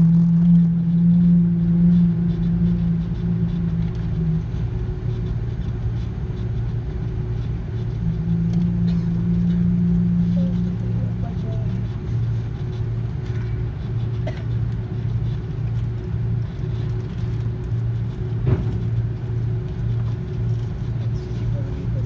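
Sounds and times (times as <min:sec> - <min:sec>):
aircraft cabin rumble: 0:00.0 - 0:22.0
droning hum: 0:00.0 - 0:22.0.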